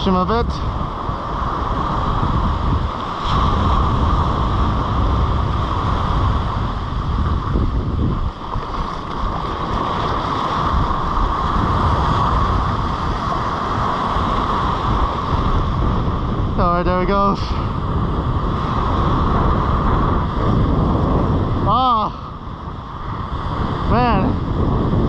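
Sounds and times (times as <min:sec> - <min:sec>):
surf washing on sandy beach: 0:00.0 - 0:25.0
wind buffeting microphone: 0:00.0 - 0:25.0.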